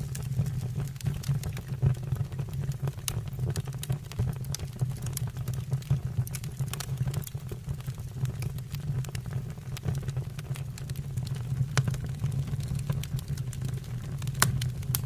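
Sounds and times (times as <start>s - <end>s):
fire popping: 0.0s - 15.0s.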